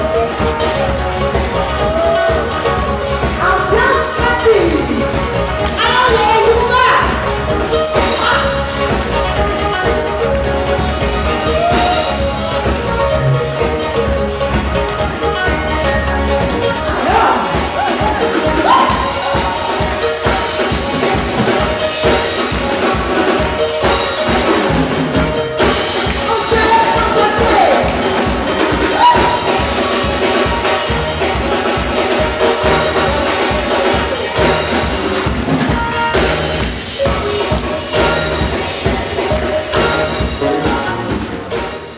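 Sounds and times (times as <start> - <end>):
fast drum rhythm: 0.0 - 41.9
pitched melodic percussion: 0.0 - 41.9.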